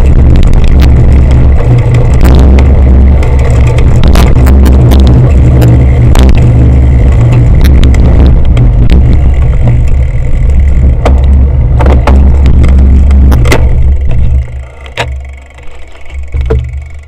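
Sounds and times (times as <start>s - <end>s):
wind buffeting microphone: 0.0s - 14.6s
bike rattling and clicking: 0.0s - 17.0s.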